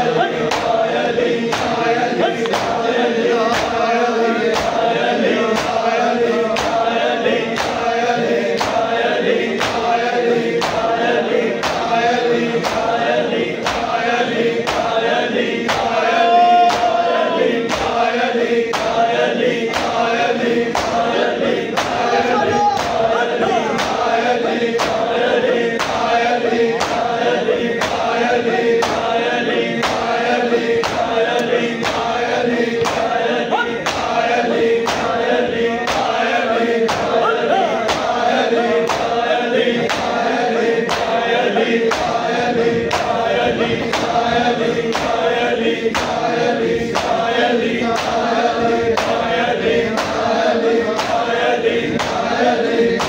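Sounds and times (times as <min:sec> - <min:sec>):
men chanting in chorus: 0:00.0 - 0:53.0
rhythmic chest-beating: 0:00.0 - 0:53.0.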